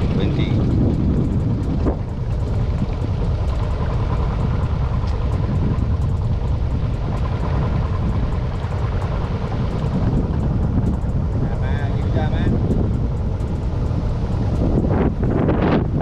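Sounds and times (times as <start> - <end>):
small boat motor running: 0.0 - 16.0
wind buffeting microphone: 0.0 - 16.0.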